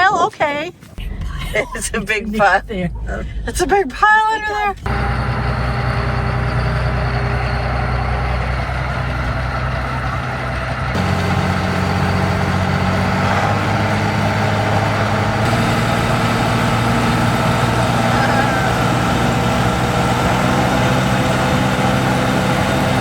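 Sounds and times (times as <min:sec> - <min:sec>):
heavy engine rumbling: 0:00.8 - 0:23.0.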